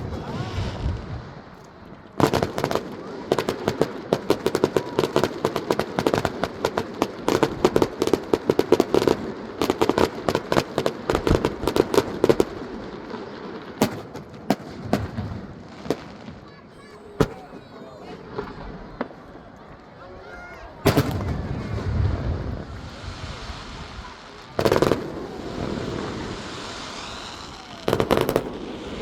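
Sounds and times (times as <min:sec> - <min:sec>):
fireworks crackling and banging: 0:00.0 - 0:29.0.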